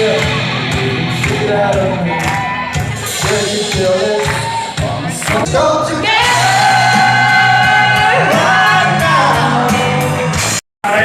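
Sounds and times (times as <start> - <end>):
live band playing: 0.0 - 11.0
steady drum beat: 0.0 - 11.0.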